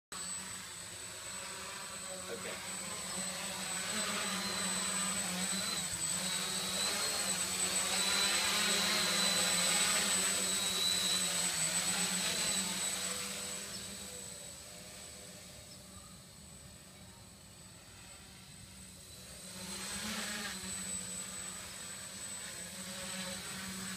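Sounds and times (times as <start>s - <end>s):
quadcopter propellers whirring: 0.1s - 23.9s.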